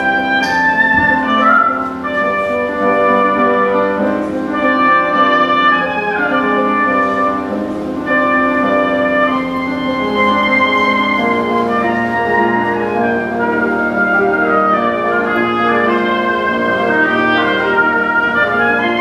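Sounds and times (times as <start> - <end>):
oboe melody: 0.0 - 19.0
piano accompaniment: 0.0 - 19.0.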